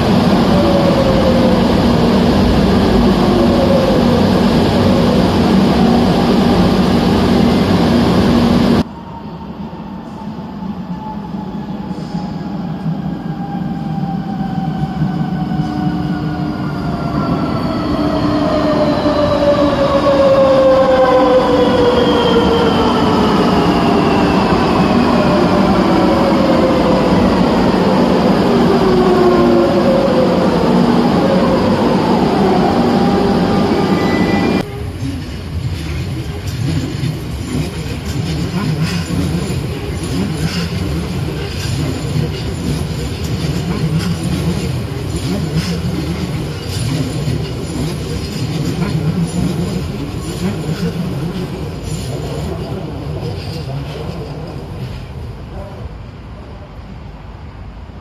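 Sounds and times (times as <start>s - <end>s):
low train rumble: 0.0s - 58.0s.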